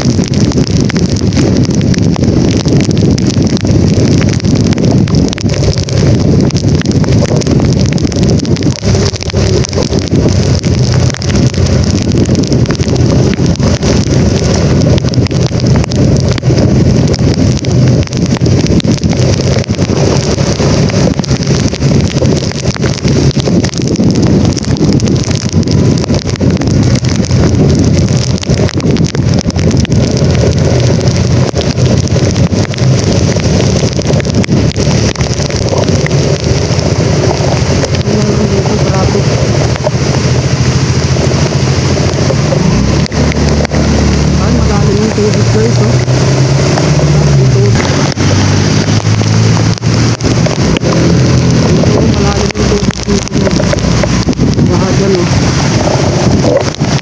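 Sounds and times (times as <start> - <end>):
vehicle driving on wet road: 0.0 - 57.0
wind buffeting microphone: 0.0 - 57.0.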